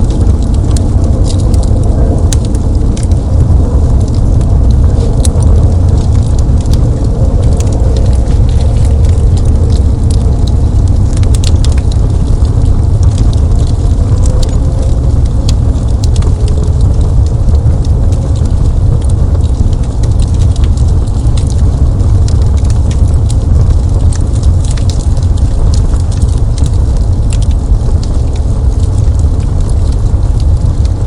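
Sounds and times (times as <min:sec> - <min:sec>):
fire crackling and popping: 0:00.0 - 0:31.0
low rumble of flames: 0:00.0 - 0:31.0.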